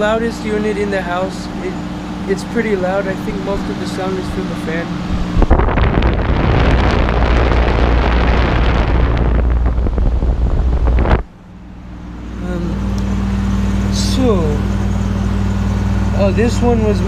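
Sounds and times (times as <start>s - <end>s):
air conditioner fan air rush: 0.0s - 17.0s
air conditioner hum: 0.0s - 17.0s.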